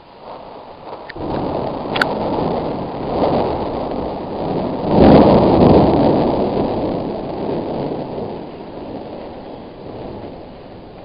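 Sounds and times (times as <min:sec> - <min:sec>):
steady hiss: 0:00.0 - 0:11.0
thunder clap rumbling: 0:00.0 - 0:11.0.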